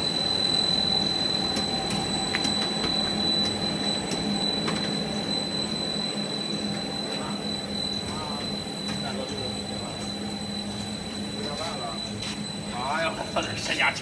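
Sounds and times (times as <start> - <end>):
high constant whine: 0.0 - 14.0
machine drone with low hum: 0.0 - 14.0.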